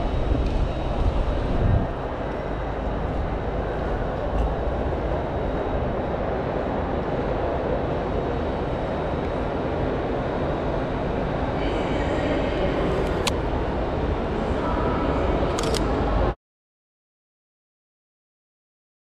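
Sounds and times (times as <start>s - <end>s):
railway station ambience: 0.0s - 16.4s.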